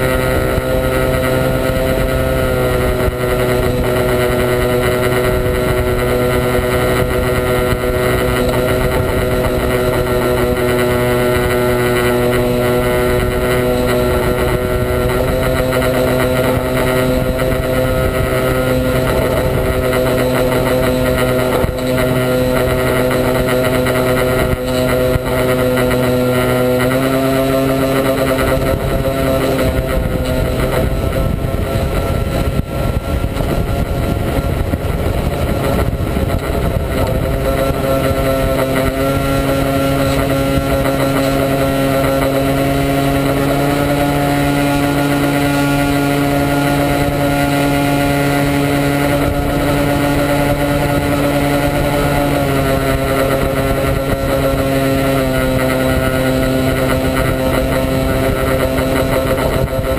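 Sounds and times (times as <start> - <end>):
model airplane motor and propeller: 0.0 - 59.9
rushing airflow: 0.0 - 59.9.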